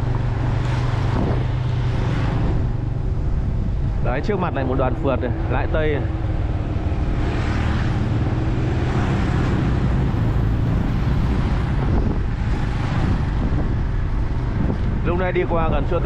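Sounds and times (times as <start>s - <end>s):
motorbikes passing by: 0.0s - 16.0s
wind rushing over microphone: 0.0s - 16.0s.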